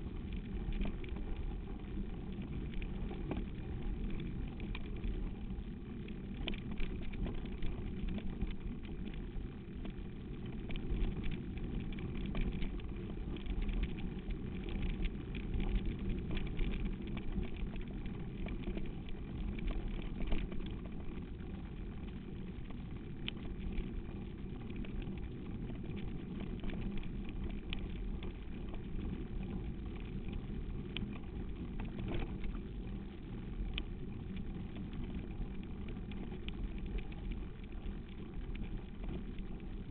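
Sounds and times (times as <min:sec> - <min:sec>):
low rumble of wind and travel: 0:00.0 - 0:39.9
small rattles and knocks: 0:00.0 - 0:39.9.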